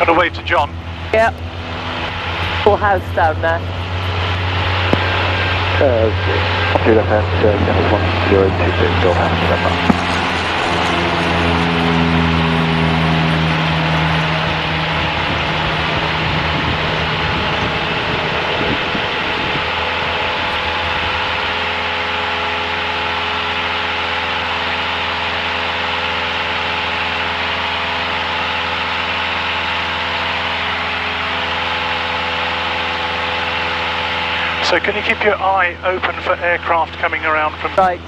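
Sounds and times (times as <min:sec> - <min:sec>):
light aircraft engine droning: 0:00.0 - 0:38.0.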